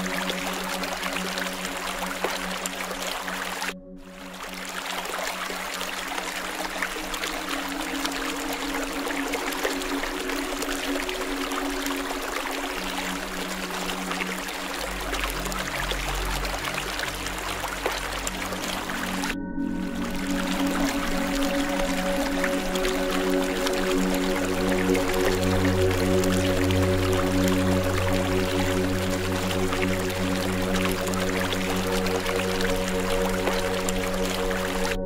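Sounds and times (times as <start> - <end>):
soft low music tones: 0.0 - 35.0
water trickling: 0.0 - 35.0.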